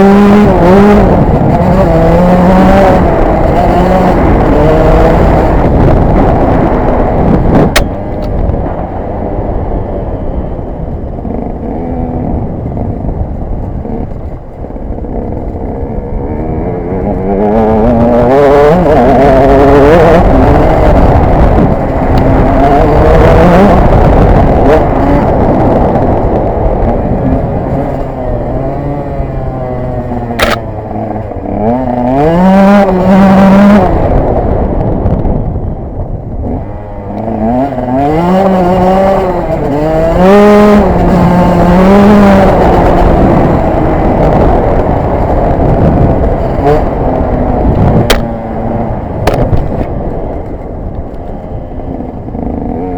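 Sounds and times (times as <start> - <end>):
two-stroke motorcycle engine revving: 0.0 - 52.9.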